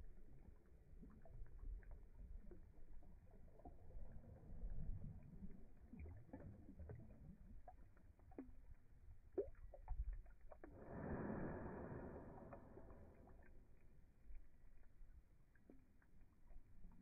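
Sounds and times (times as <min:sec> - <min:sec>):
low gurgling with bubble pops: 0:00.0 - 0:17.0
water drips: 0:00.0 - 0:17.0.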